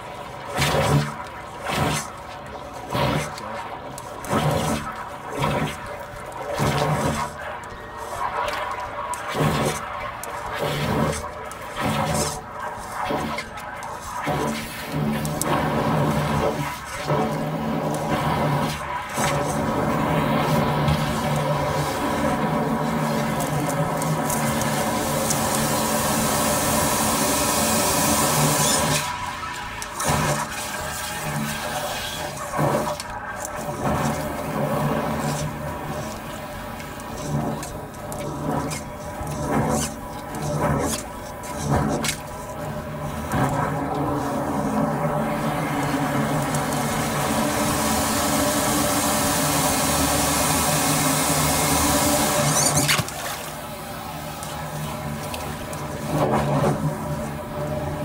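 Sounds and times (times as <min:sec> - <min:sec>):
high-pressure water jetting: 0:00.0 - 0:58.0
steady machine hum: 0:00.0 - 0:58.0
wastewater churning and gurgling: 0:00.0 - 0:58.0.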